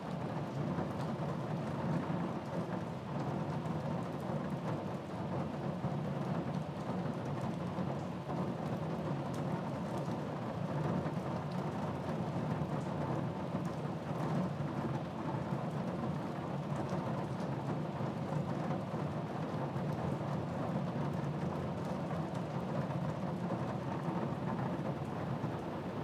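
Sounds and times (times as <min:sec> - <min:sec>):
steady rain falling: 0:00.1 - 0:26.0.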